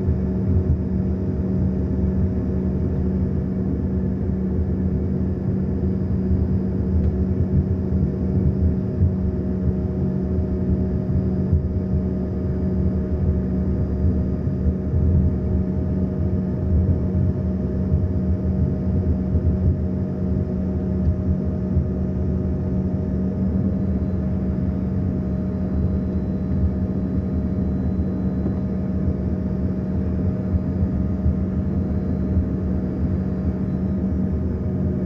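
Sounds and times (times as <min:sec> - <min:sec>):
airliner engines rumbling: 0:00.0 - 0:35.0.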